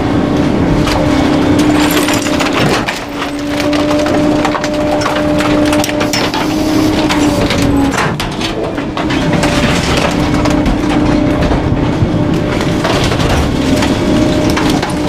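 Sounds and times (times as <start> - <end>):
hydraulic packer hum: 0.0 - 15.0
items cracking and snapping: 0.7 - 15.0.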